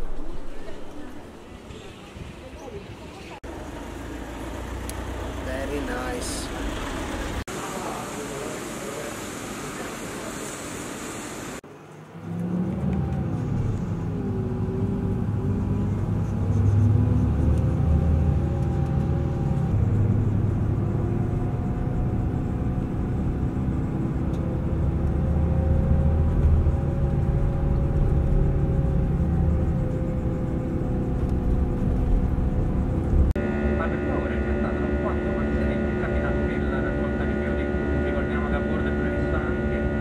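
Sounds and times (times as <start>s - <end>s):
bus engine drone: 0.0s - 40.0s.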